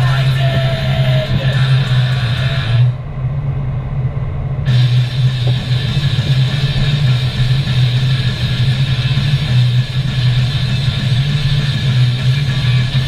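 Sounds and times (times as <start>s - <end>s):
music in a car: 0.0s - 3.0s, 4.7s - 13.0s
car engine and road drone: 0.0s - 13.0s.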